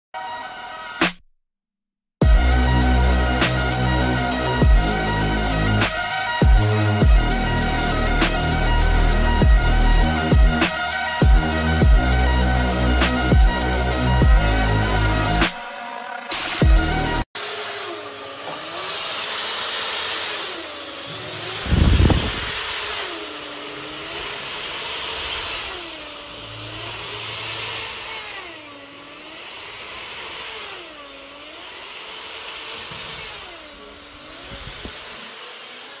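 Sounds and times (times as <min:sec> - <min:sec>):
power tool motor spinning: 0:02.3 - 0:36.0.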